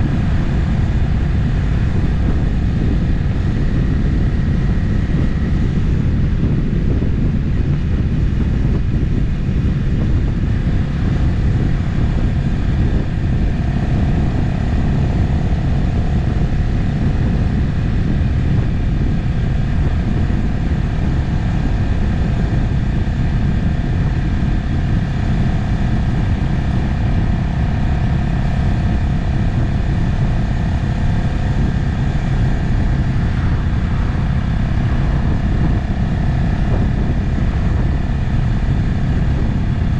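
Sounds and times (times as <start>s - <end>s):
faint steady whine: 0.0s - 39.9s
motorcycle engine drone: 0.0s - 39.9s
wind and road noise: 0.0s - 39.9s.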